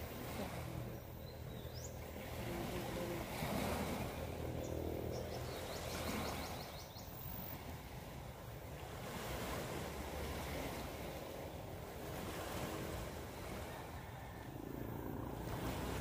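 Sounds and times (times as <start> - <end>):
waves breaking on pebbly shore: 0.0 - 0.9, 2.0 - 4.6, 5.6 - 6.9, 7.6 - 16.0.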